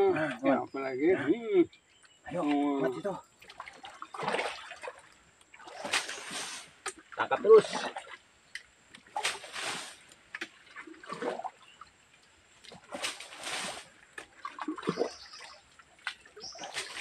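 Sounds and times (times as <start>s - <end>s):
water splashing from bucket: 2.3s - 8.3s, 9.0s - 17.0s.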